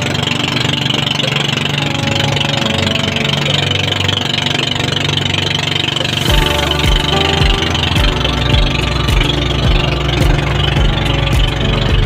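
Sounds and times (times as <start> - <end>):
boat engine pulsing: 0.0 - 12.0.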